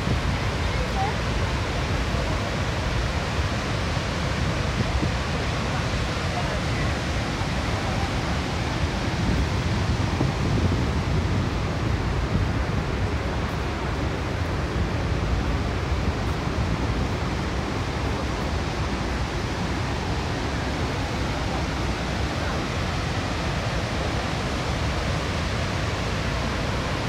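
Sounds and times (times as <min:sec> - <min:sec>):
churning rapids: 0:00.0 - 0:27.0
waterfall rushing: 0:00.0 - 0:27.0.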